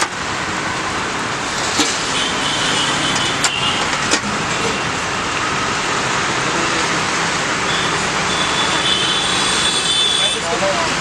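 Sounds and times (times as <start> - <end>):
roadside traffic noise: 0.0 - 11.0.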